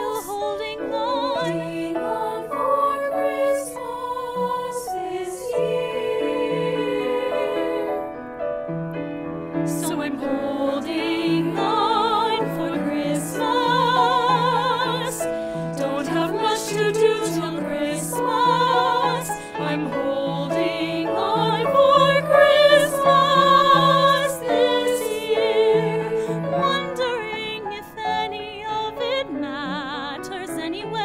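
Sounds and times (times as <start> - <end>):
piano: 0.0 - 31.0.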